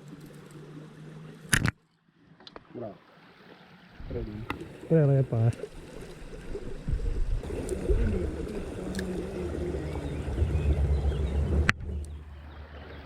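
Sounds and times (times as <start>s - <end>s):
small stream flowing: 0.0s - 13.0s.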